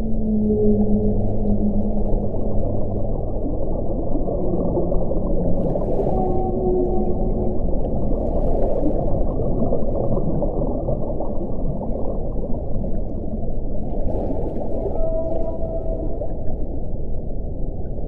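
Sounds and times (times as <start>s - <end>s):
faint moaning wind tones: 0.0s - 18.0s.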